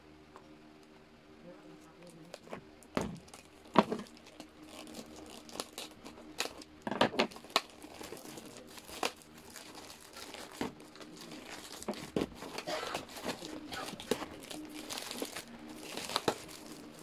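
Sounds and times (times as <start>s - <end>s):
plastic film crinkling: 1.8s - 17.0s.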